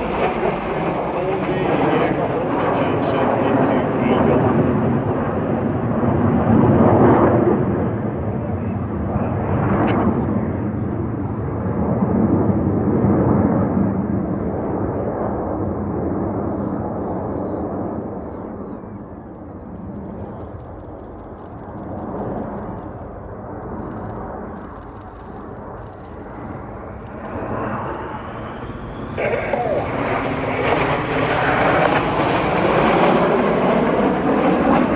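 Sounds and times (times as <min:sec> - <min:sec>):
jet aircraft passing: 0:00.0 - 0:34.9
jet whine: 0:00.0 - 0:34.9.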